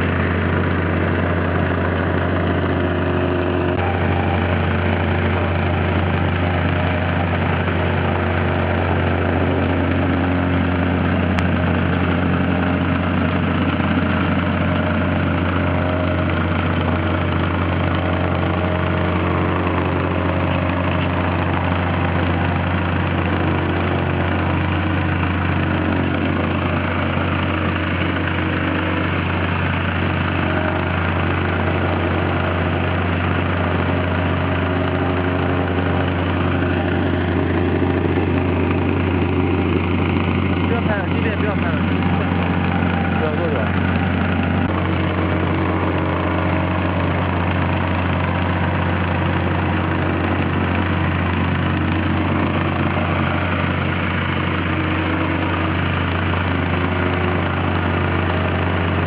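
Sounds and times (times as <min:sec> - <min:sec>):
plate compactor engine hum: 0:00.0 - 0:59.0.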